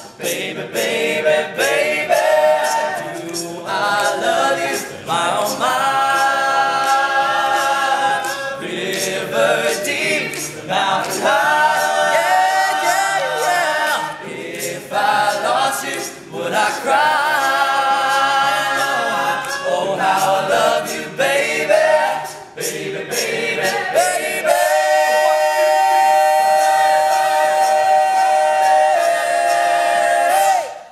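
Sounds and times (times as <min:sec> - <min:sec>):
male group singing in harmony: 0:00.0 - 0:30.9.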